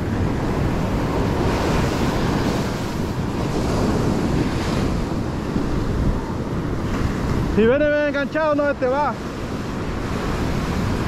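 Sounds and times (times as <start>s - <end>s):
ocean surf breaking on beach: 0.0s - 11.0s
wind buffeting microphone: 0.0s - 11.0s.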